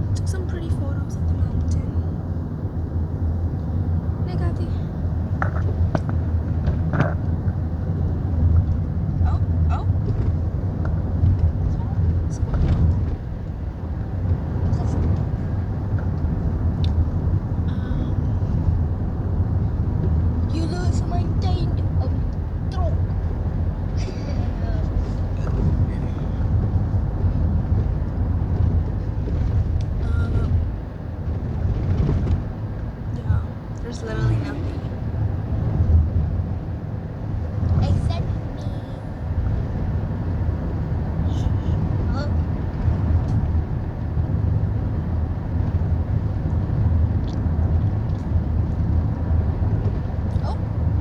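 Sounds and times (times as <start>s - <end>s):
vehicle engine rumble: 0.0s - 51.0s
wind noise: 2.0s - 51.0s.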